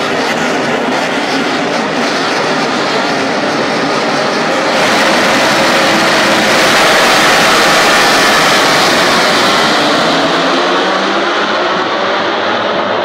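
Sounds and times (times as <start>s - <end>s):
racing motorcycles at full throttle: 0.0s - 13.0s.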